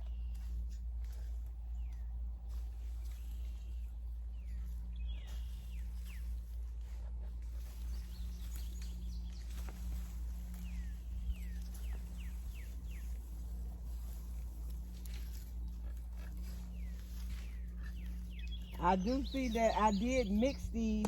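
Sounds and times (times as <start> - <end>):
birds chirping: 0.0 - 21.0
steady low hum: 0.0 - 21.0.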